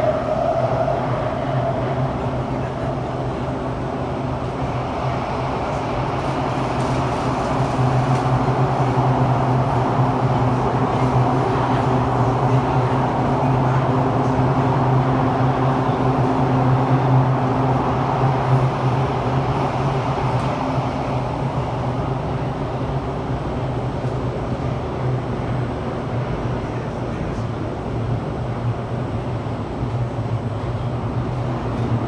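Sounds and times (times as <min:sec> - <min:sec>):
train cabin low hum: 0:00.0 - 0:32.0
train wheels rumbling on track: 0:00.0 - 0:32.0.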